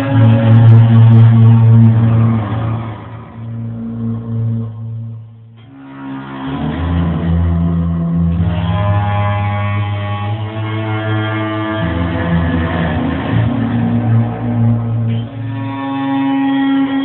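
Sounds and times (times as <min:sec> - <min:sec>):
stringed instrument low growling notes: 0:00.0 - 0:17.0.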